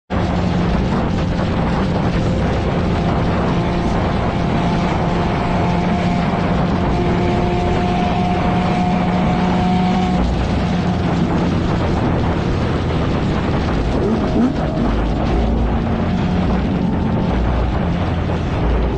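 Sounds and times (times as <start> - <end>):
car engine droning: 0.1 - 18.9
high whine: 0.1 - 18.9
rushing noise: 0.1 - 18.9.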